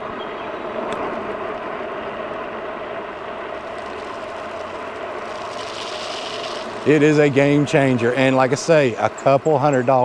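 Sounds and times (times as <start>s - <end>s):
faint motor hum: 0.0s - 10.0s
tyre and wind riding noise: 0.0s - 10.0s.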